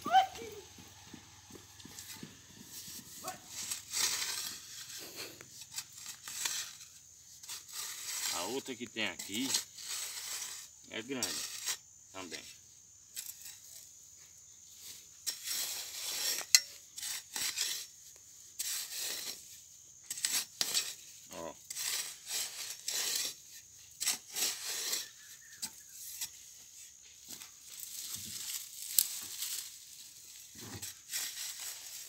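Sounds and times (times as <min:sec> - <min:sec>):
steel bar scraping into dry soil: 0:01.8 - 0:32.0.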